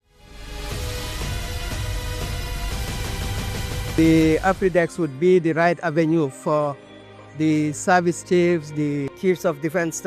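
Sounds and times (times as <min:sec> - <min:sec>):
background music with steady beat: 0:00.1 - 0:10.0.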